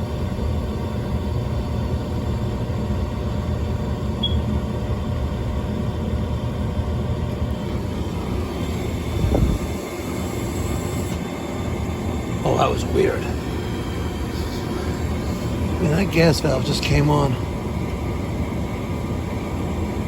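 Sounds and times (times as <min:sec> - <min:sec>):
gas furnace motor rumble: 0:00.0 - 0:20.0.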